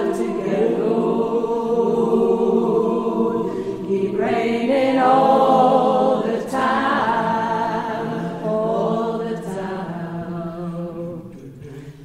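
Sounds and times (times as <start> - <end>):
women's choir singing: 0.0 - 11.9.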